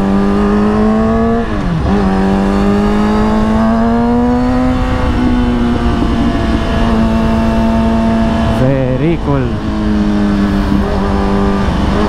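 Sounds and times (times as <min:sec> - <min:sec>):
low rush of wind: 0:00.0 - 0:12.0
motorcycle engine revving: 0:00.0 - 0:12.0.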